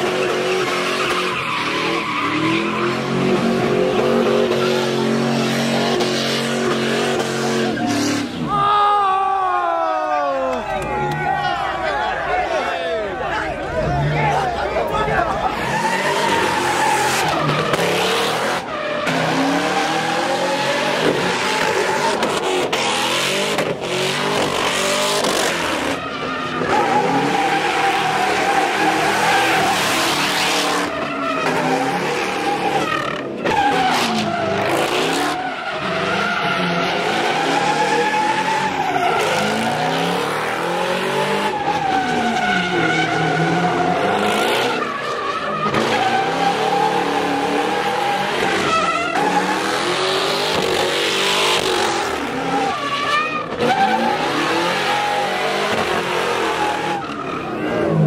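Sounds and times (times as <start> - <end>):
car engine revving hard: 0.0 - 8.5, 15.4 - 58.0
tire screech: 0.0 - 58.0.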